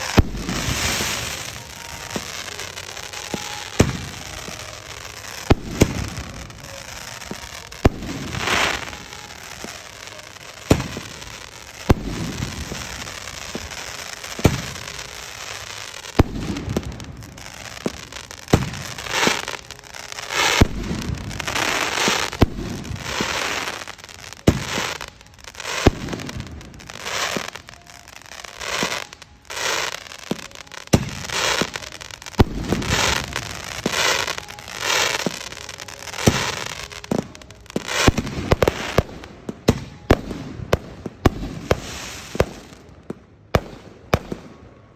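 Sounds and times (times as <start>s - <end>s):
firework crackling spray: 0.0s - 44.4s.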